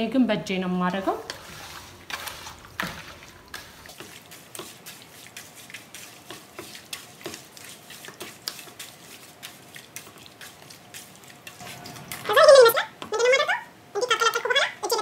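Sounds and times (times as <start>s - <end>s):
hands mixing wet chicken in bowl: 0.8s - 13.1s.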